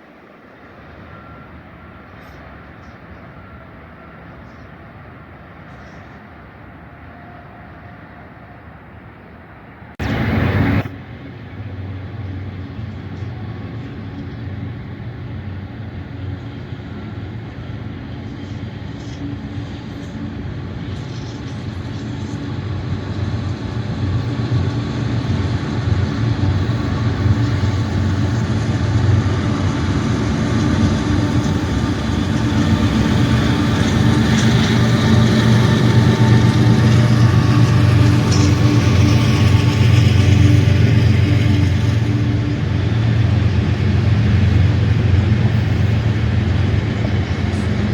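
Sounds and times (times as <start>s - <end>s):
diesel locomotive engine rumble: 0.0s - 47.9s.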